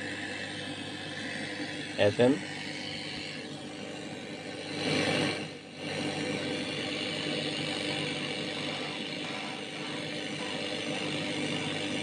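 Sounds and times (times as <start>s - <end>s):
radio static hiss: 0.0s - 12.0s
steady hum: 0.0s - 12.0s.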